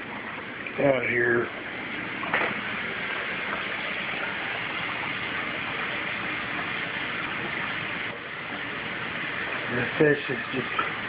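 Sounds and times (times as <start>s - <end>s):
aquarium filter water splashing: 0.0s - 11.0s.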